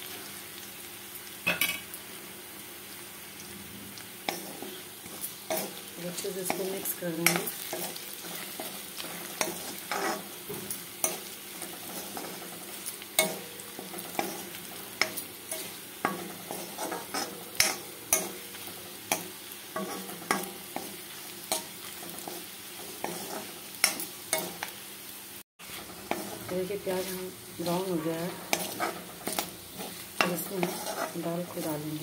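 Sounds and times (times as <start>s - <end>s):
oil sizzling: 0.0s - 32.0s
spatula scraping and knocking pan: 4.2s - 24.7s, 25.6s - 32.0s.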